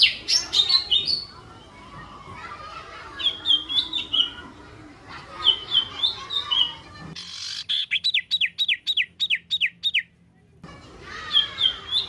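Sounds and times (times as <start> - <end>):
songbird singing: 0.0 - 10.1, 10.9 - 12.0
background noise: 0.0 - 12.0.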